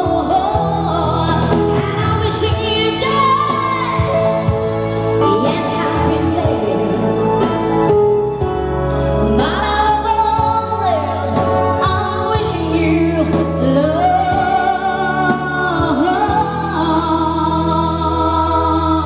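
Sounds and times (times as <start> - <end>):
woman singing through a microphone: 0.0 - 7.7, 9.1 - 19.0.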